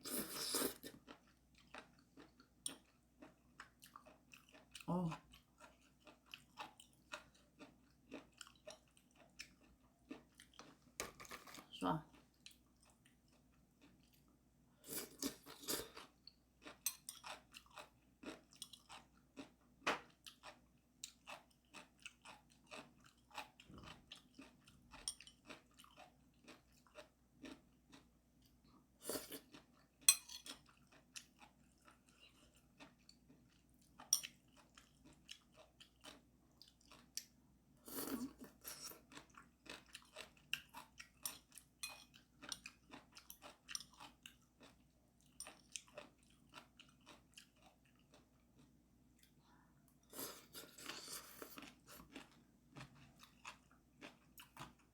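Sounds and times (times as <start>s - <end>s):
person chewing crunchy food: 0.0s - 54.9s.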